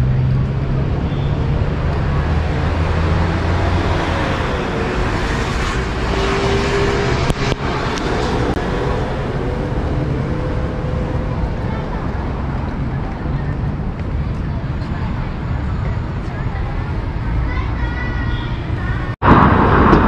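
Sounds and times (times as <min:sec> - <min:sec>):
city traffic noise: 0:00.0 - 0:20.0
passing vehicle engines: 0:00.0 - 0:20.0.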